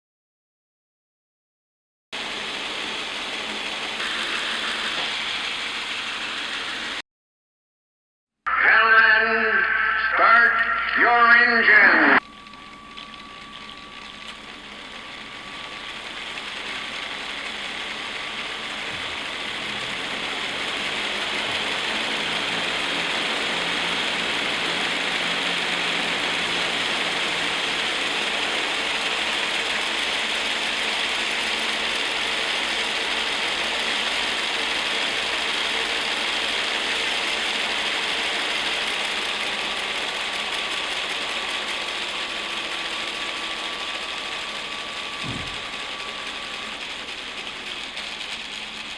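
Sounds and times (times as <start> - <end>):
toy motors and gears whirring: 2.2 - 7.0, 12.2 - 48.9.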